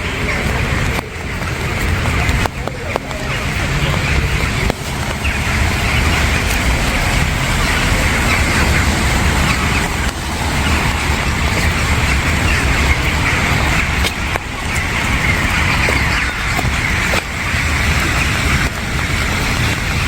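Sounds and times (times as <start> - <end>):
low traffic rumble: 0.0 - 20.0
steady rainfall: 0.0 - 20.0.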